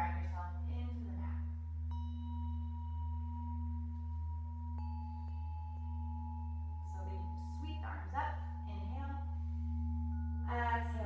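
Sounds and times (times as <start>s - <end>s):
constant low hum: 0.0s - 11.0s
bell-like ringing tones: 1.2s - 11.0s.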